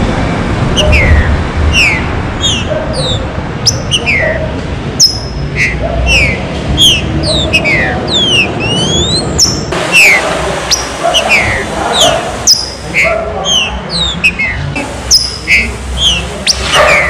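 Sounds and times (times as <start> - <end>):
birds chirping: 0.0 - 17.0
low background noise: 0.0 - 17.0
rising bird whistles: 0.8 - 4.4, 5.0 - 17.0.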